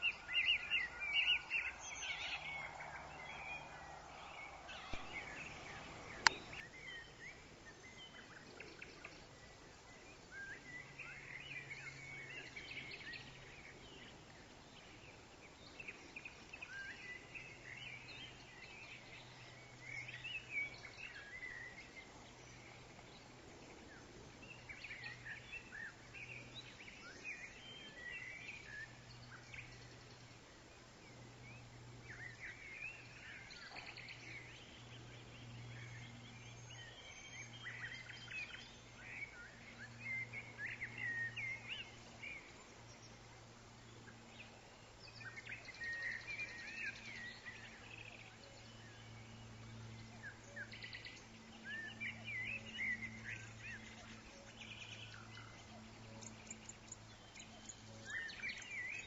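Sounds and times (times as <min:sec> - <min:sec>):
songbirds chirping: 0:00.0 - 0:59.0
wind in trees: 0:00.0 - 0:59.0.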